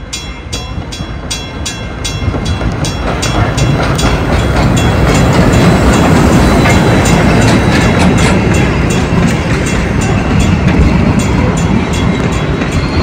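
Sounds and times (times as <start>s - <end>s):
steam train rumbling past: 0.0s - 13.0s.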